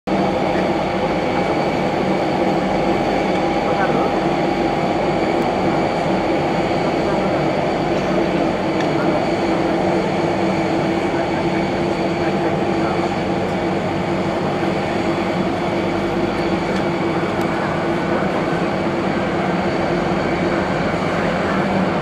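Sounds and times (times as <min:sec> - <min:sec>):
jet engines rushing with whine: 0:00.1 - 0:22.0.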